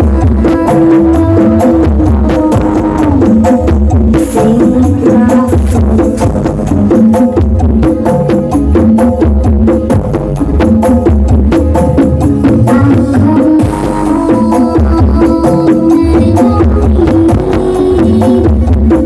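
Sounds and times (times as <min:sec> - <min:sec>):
loud music with heavy bass beat: 0:00.0 - 0:19.0.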